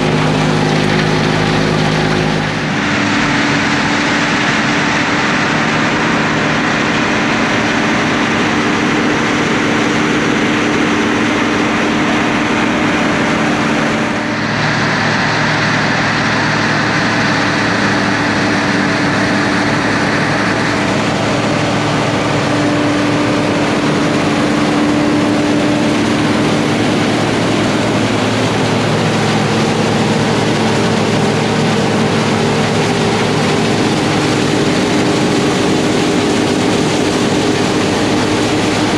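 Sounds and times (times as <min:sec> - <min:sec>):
tractor diesel engines droning: 0:00.0 - 0:38.9.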